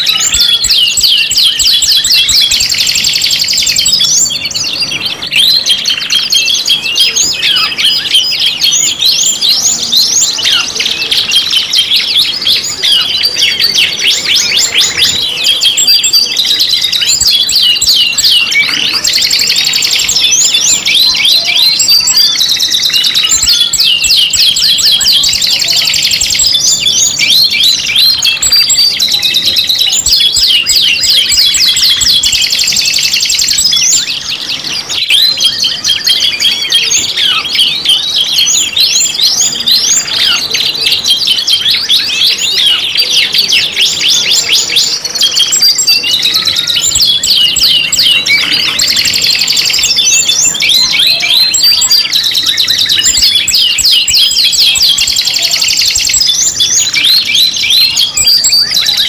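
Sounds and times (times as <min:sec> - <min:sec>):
canaries singing: 0:00.0 - 0:59.0.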